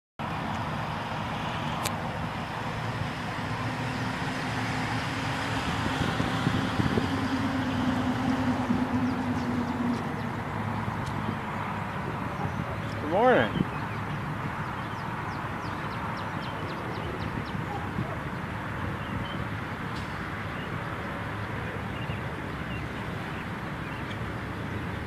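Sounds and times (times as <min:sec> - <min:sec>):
background traffic noise: 0:00.2 - 0:25.0.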